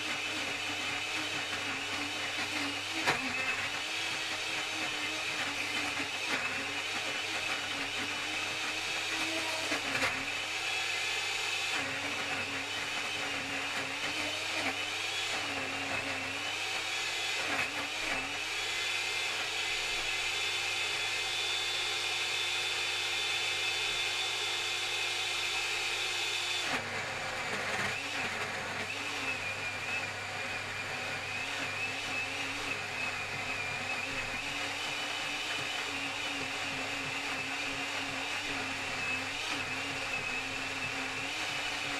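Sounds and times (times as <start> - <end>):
blender motor running: 0.0 - 41.9.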